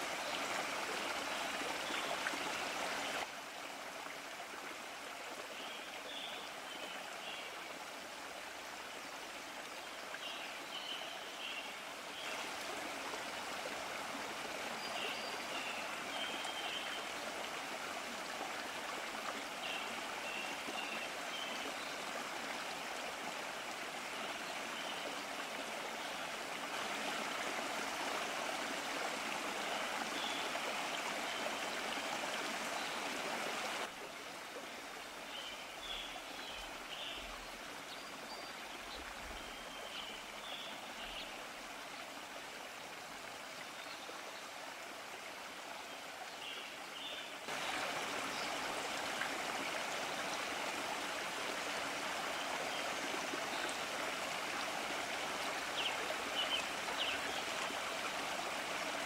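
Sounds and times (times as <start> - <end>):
flowing stream rushing: 0.0 - 59.0.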